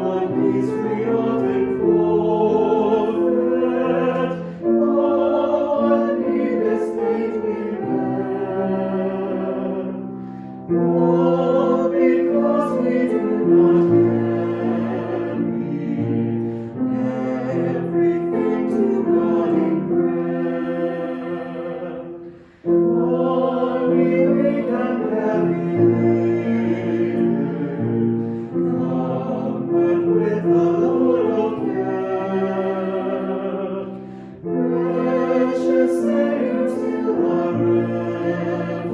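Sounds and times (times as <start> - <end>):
choir singing held chords: 0.0 - 38.9.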